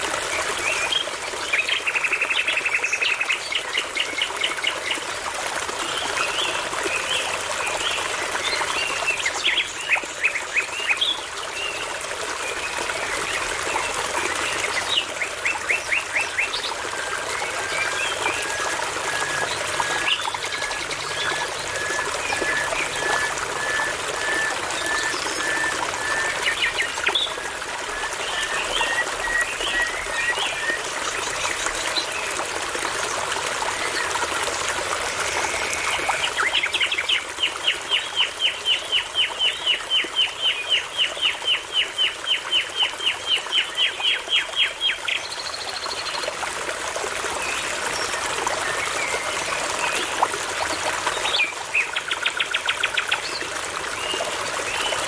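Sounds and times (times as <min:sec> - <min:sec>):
brook trickling: 0:00.0 - 0:55.0.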